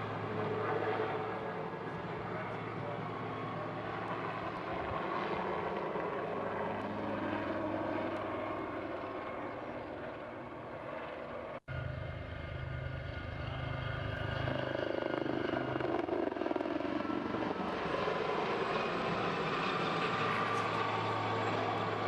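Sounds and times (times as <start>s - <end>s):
aircraft engine hum: 0.0s - 22.0s.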